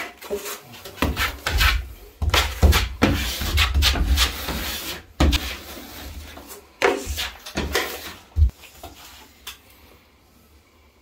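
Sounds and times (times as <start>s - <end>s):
plastering knife scraping: 0.0s - 9.6s.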